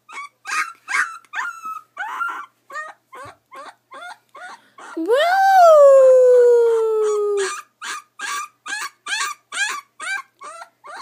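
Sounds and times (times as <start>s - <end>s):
puppy crying: 0.0s - 11.0s.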